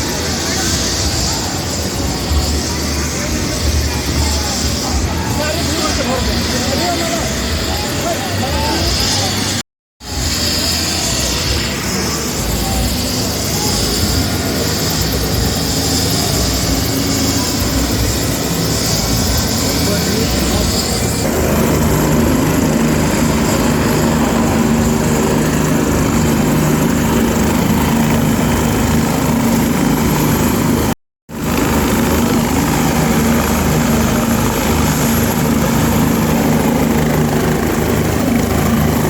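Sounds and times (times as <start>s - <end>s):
helicopter engine and rotor: 0.0s - 39.0s.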